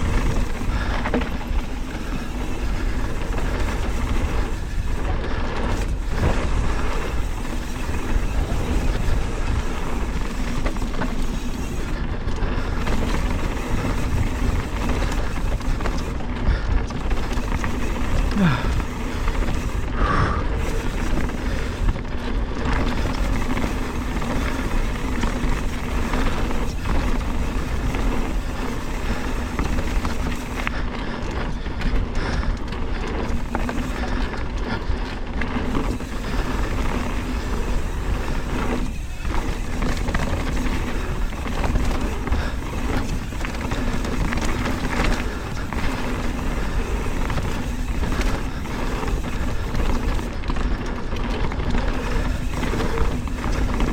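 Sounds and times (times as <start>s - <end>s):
bicycle freehub buzzing: 0.0s - 53.9s
wind and tyre noise: 0.0s - 53.9s.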